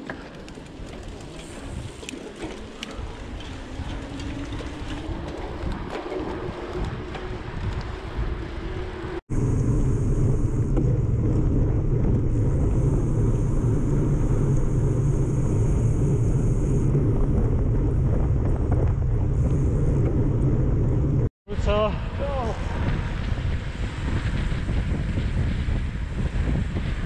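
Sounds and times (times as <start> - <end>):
wind rush on microphone: 0.4 - 27.0.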